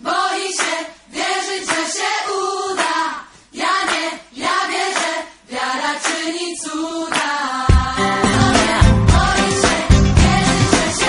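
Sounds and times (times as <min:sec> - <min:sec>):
choir singing with music: 0:00.0 - 0:11.0.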